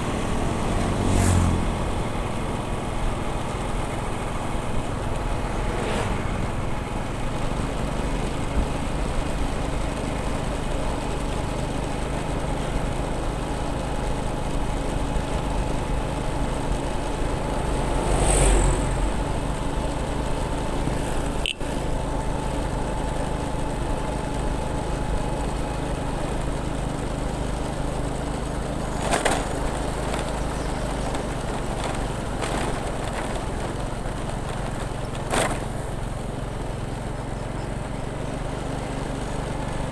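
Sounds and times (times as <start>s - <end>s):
motorbike engine running: 0.0s - 39.9s
road and wind noise: 0.0s - 39.9s.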